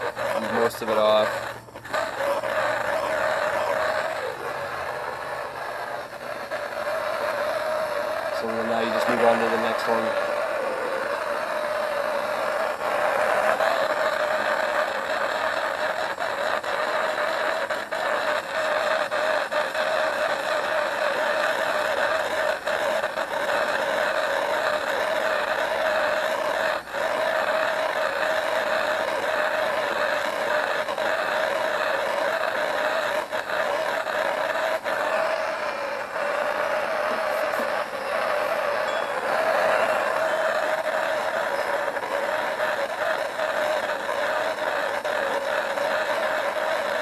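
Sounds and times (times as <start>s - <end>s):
propane torch hissing: 0.0s - 43.6s.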